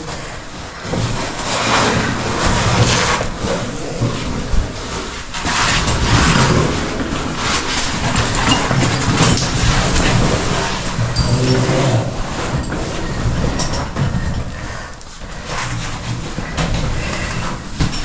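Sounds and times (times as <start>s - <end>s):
footsteps in a cave: 0.0s - 18.0s
gear scraping and rustling: 0.0s - 18.0s.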